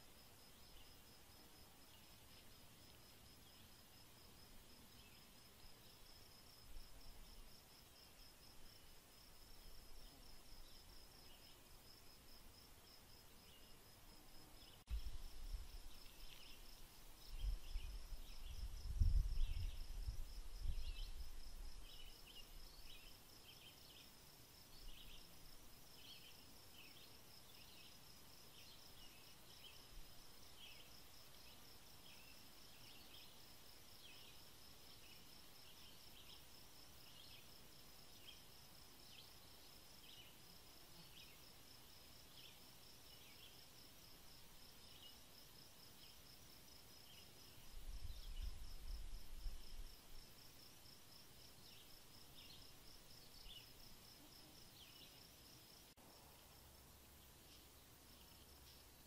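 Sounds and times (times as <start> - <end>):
high insect trill: 0.0 - 59.0.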